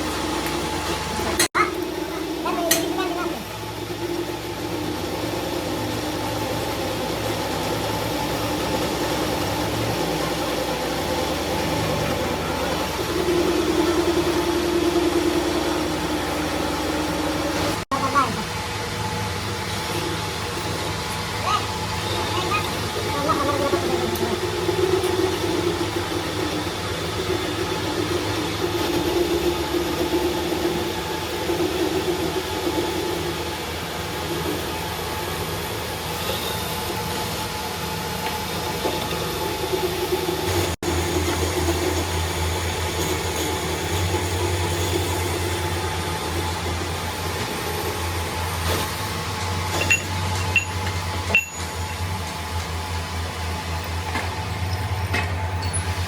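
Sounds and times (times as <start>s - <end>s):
machine humming: 0.0s - 56.0s.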